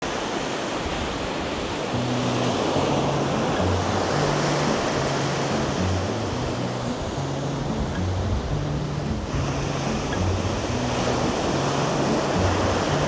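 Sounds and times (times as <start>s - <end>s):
surf washing on a beach: 0.0s - 13.0s
background music with bass: 2.0s - 13.0s.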